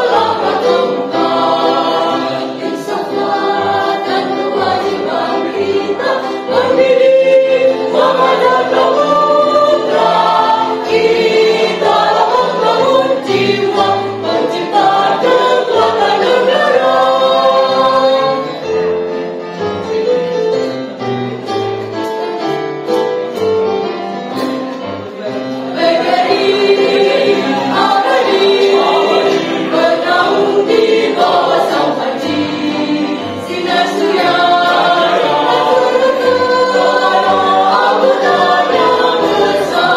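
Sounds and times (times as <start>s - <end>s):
mixed choir singing a march: 0.0s - 19.5s, 25.5s - 39.9s.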